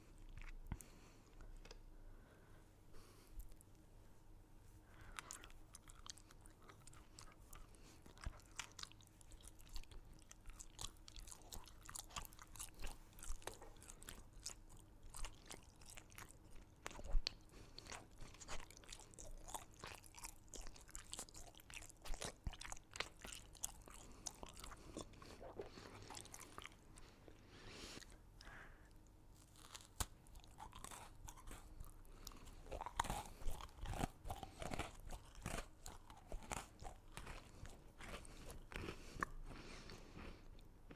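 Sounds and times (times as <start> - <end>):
chewing crunchy sweets: 0.0 - 1.8, 4.8 - 40.9.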